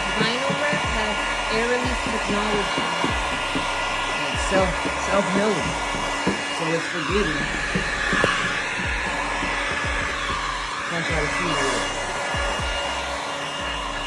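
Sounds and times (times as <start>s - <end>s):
heat gun blowing hiss: 0.0s - 14.0s.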